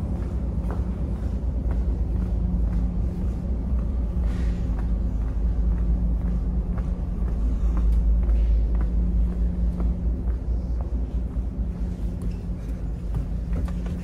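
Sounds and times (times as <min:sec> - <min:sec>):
ferry engines rumbling: 0:00.0 - 0:14.0
footsteps on hard floor: 0:00.1 - 0:14.0.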